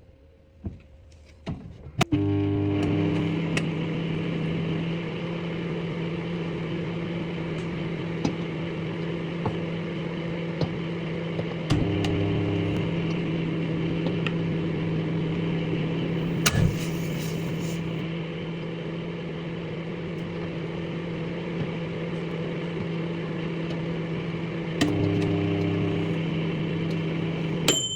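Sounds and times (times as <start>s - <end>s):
microwave oven humming: 1.8s - 27.9s.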